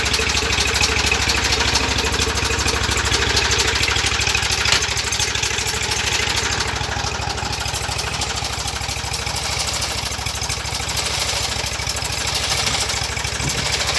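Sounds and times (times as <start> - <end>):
tractor diesel engine idling: 0.0 - 13.9.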